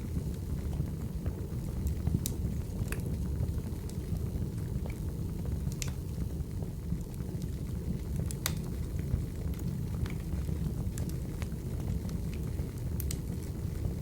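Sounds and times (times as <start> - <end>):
burning logs crackling: 0.0 - 14.0
low rumble of flames: 0.0 - 14.0.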